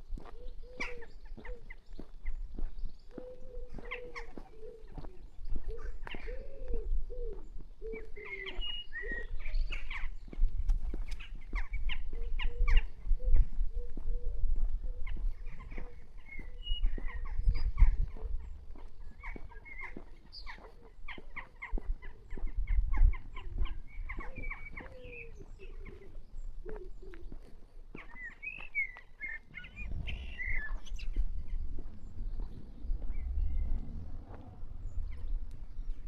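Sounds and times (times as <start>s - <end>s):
wind buffeting microphone: 0.0s - 28.6s, 29.4s - 36.0s
small birds chirping: 0.0s - 36.0s.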